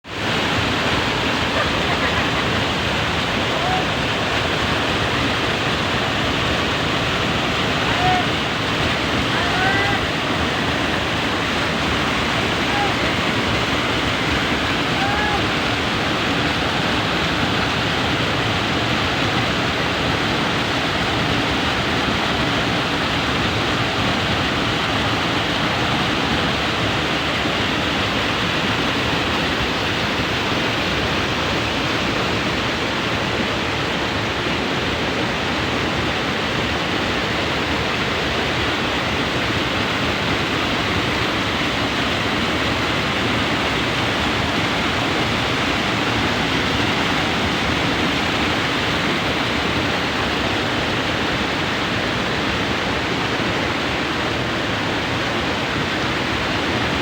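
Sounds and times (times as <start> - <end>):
fast stream rushing: 0.0 - 57.0.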